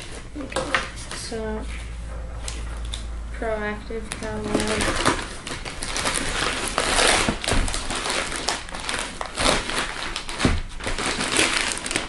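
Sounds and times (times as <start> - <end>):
paper and packaging rustling: 0.0 - 12.0.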